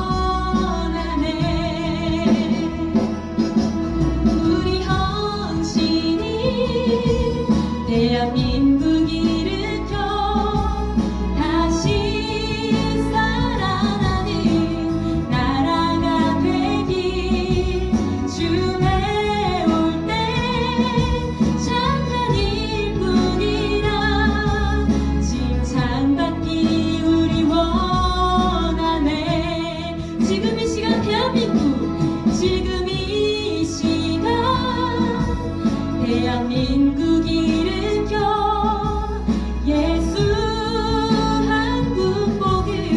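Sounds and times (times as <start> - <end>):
instrumental accompaniment: 0.0 - 42.9
woman singing into a microphone: 0.0 - 42.9.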